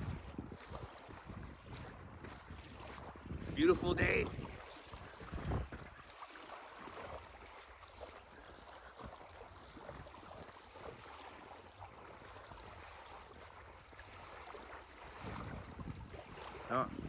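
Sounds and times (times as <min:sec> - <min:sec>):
small waves on shore: 0:00.0 - 0:17.0
wind buffeting microphone: 0:00.0 - 0:17.0.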